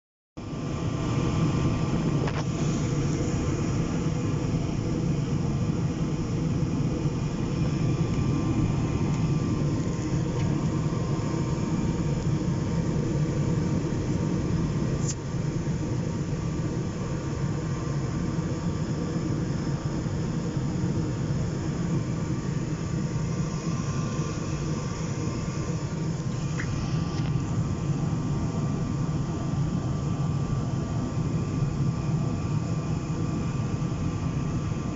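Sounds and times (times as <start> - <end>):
faint steady hum: 0.4 - 34.9
furnace burners roaring: 0.4 - 34.9.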